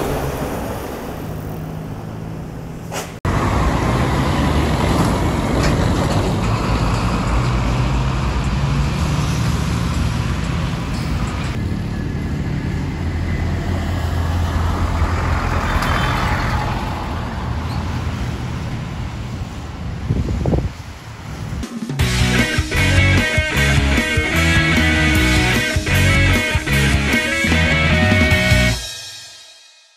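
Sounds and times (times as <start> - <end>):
diesel bus engines droning: 0.0 - 28.9
road noise: 0.0 - 28.9.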